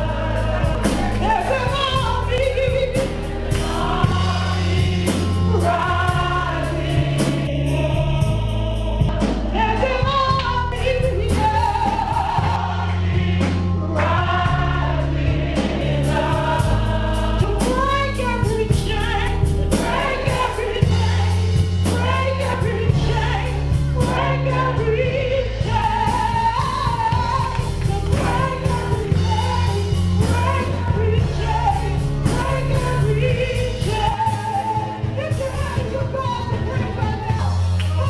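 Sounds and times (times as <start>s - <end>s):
band playing bass and organ chords: 0.0s - 38.0s
person singing gospel: 0.0s - 38.0s.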